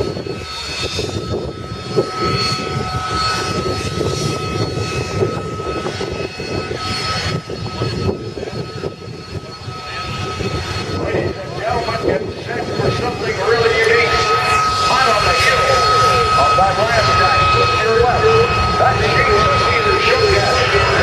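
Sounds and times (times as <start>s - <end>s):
airplane engine drone: 0.0s - 21.0s.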